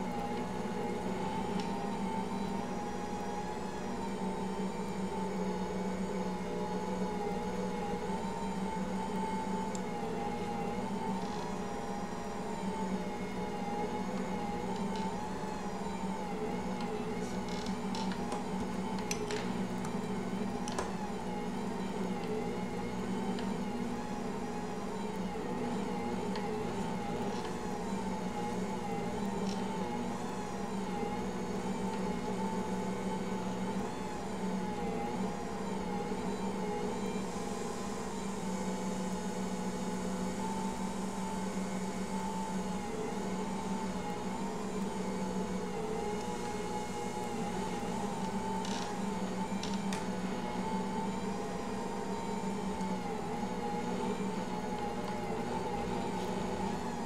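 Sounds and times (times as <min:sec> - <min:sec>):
stand mixer motor hum: 0:00.0 - 0:57.0.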